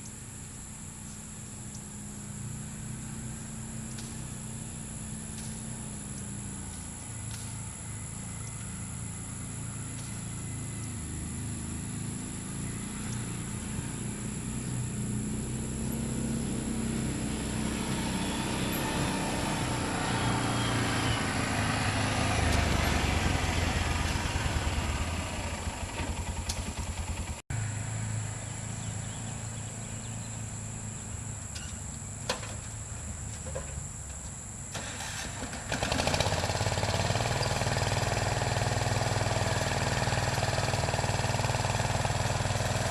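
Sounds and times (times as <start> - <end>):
garden tractor engine running: 0.0 - 33.7, 34.7 - 42.9.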